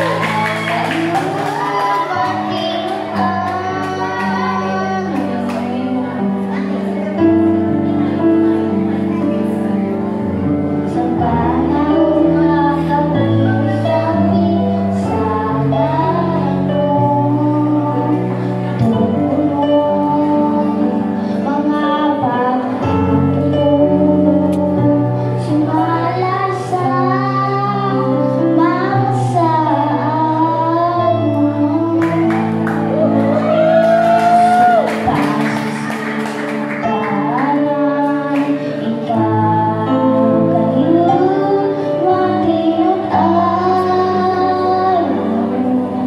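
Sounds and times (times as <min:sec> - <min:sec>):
girl singing into a microphone: 0:00.0 - 0:46.0.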